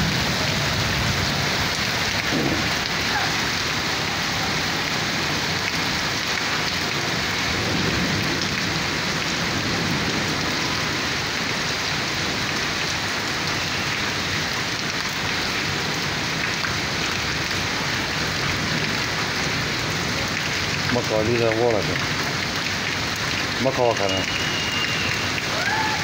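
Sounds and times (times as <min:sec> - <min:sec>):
rain on concrete rooftop: 0:00.0 - 0:26.0.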